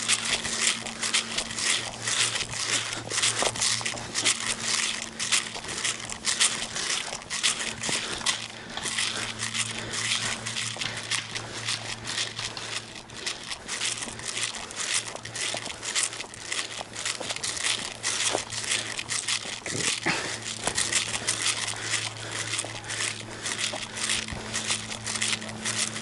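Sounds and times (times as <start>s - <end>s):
rustling and crackling: 0.0s - 26.0s
steady low hum: 0.0s - 26.0s.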